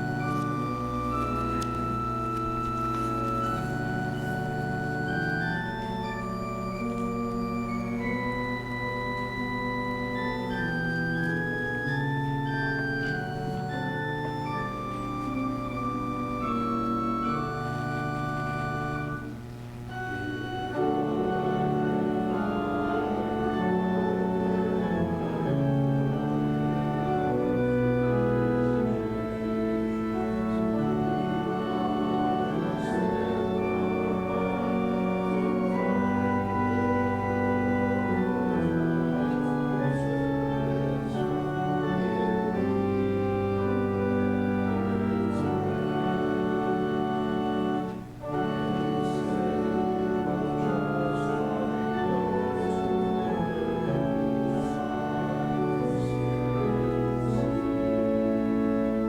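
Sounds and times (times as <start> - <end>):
church organ playing hymn chords: 0.0 - 59.0.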